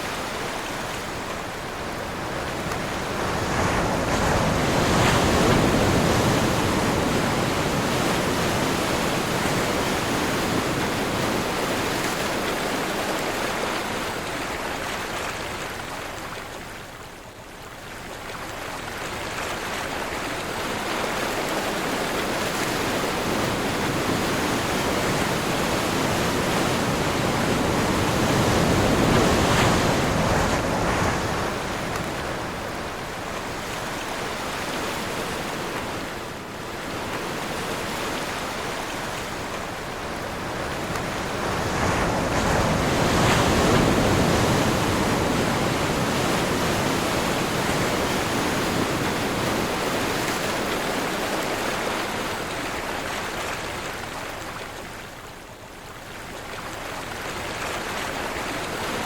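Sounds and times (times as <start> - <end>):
ocean waves washing in: 0.0 - 17.6, 18.5 - 59.0.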